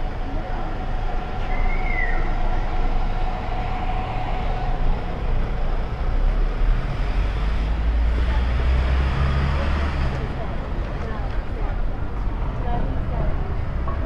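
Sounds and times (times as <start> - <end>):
low engine rumble: 0.0 - 14.0
road traffic noise: 0.0 - 14.0.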